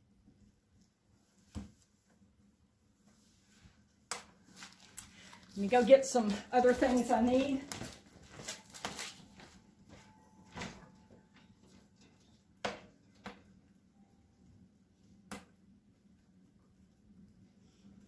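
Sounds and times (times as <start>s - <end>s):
wood fire crackling: 3.0s - 18.0s.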